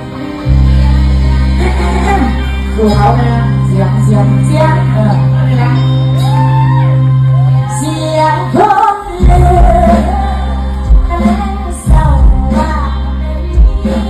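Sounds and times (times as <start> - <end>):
band music: 0.0 - 14.0
woman singing: 0.6 - 6.7, 7.6 - 14.0.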